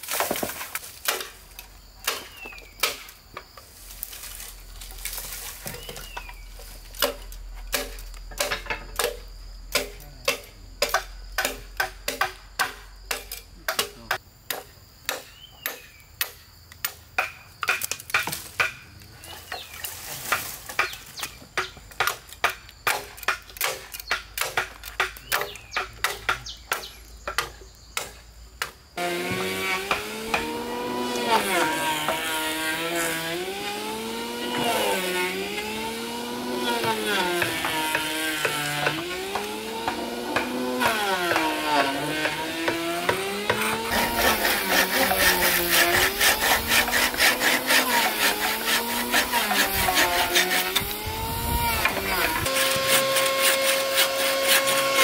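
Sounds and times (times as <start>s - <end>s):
hand tool striking wood: 0.0s - 1.4s, 2.0s - 18.8s, 19.5s - 55.0s.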